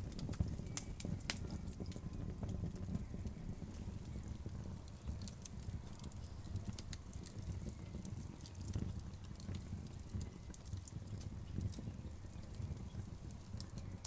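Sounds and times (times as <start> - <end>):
logs crackling and popping: 0.0 - 14.0
wood fire rumbling: 0.0 - 14.0.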